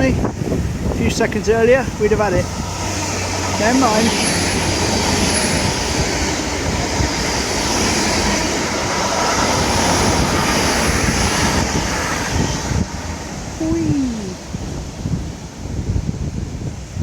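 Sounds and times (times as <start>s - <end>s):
rain: 0.0s - 17.0s
wind buffeting microphone: 0.0s - 17.0s.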